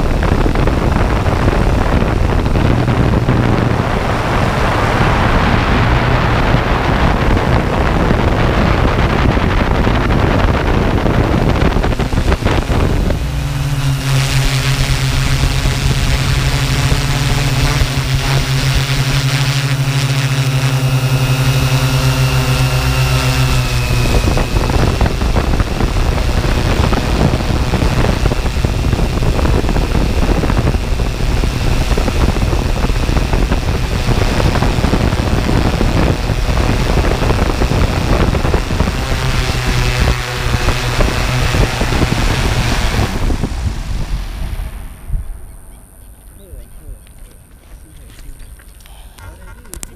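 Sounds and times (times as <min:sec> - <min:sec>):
wind rushing: 0:00.0 - 0:47.6
drone motors humming: 0:00.0 - 0:49.9.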